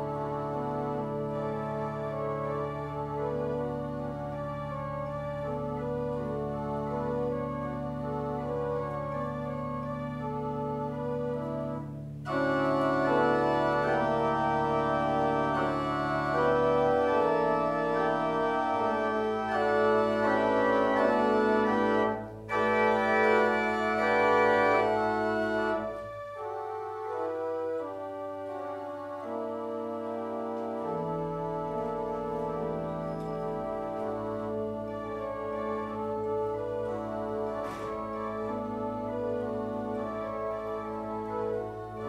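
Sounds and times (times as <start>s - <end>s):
pipe organ playing chords: 0.0s - 42.0s.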